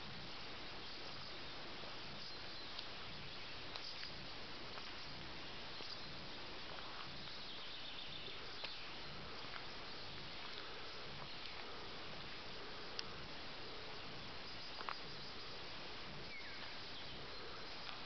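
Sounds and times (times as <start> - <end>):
insects chirping softly: 0.0 - 18.0
steady hiss: 0.0 - 18.0.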